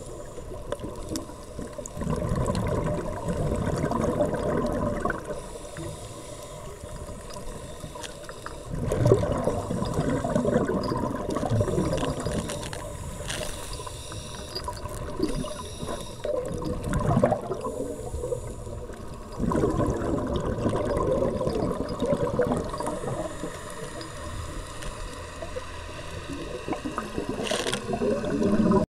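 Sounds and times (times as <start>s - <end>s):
underwater air bubbling: 0.0s - 28.9s
underwater water background: 0.0s - 28.9s.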